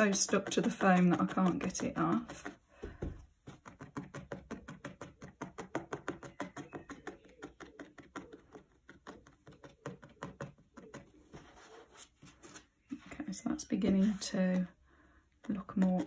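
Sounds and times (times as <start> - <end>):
felting needle tapping: 0.0 - 11.4, 13.7 - 16.0.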